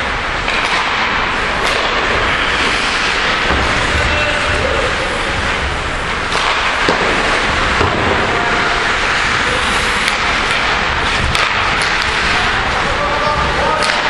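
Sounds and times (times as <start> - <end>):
ice rink noise rush: 0.0 - 14.0.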